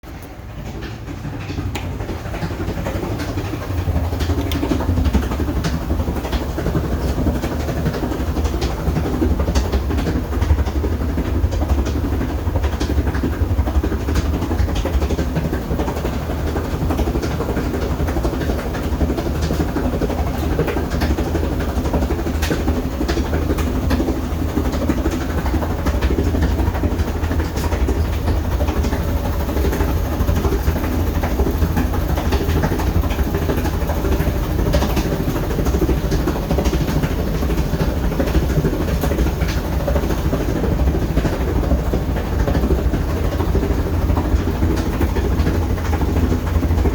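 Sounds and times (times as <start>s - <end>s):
rattles and knocks: 0.0s - 46.9s
washing machine spinning: 0.0s - 46.9s.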